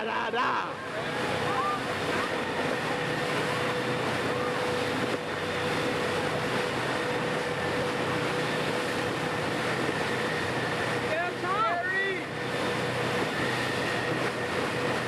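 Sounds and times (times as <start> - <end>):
low engine hum: 0.0 - 15.0
thin steady whine: 0.0 - 15.0
wind and water rushing: 0.0 - 15.0.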